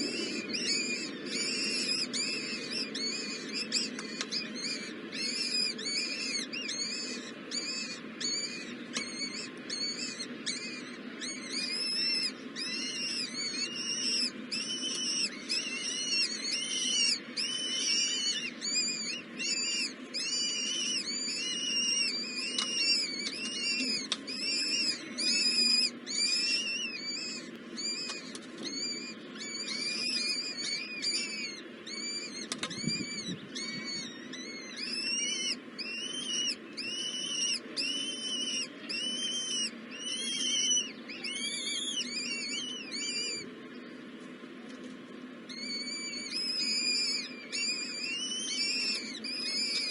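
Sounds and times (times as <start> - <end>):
baby birds calling: 0.0 - 44.4, 45.5 - 49.9.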